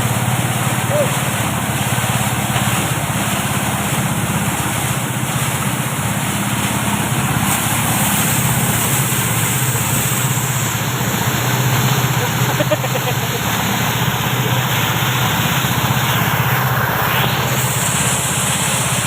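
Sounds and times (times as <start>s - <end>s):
continuous rushing noise: 0.0s - 19.0s
threshing machine motor humming: 0.0s - 19.0s.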